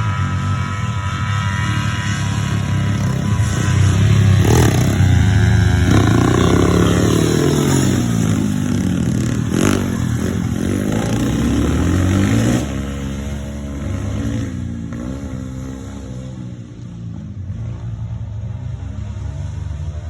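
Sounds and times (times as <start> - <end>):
small motorcycles revving past: 0.0 - 20.0.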